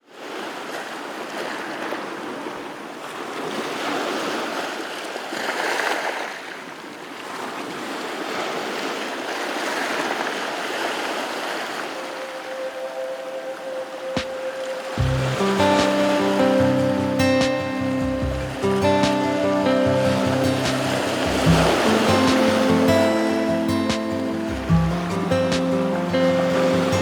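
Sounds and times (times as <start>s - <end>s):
sea waves washing in: 0.2s - 27.0s.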